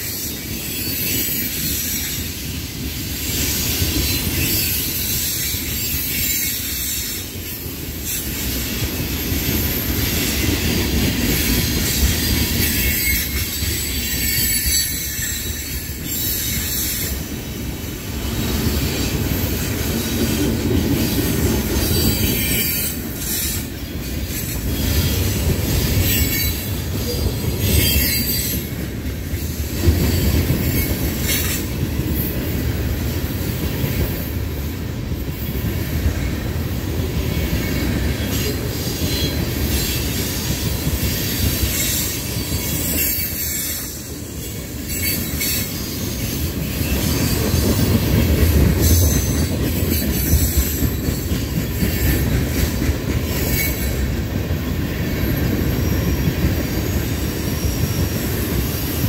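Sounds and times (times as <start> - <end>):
freight train wheels rumbling on rails: 0.0 - 59.0
train cars clicking and clanking: 0.0 - 59.0.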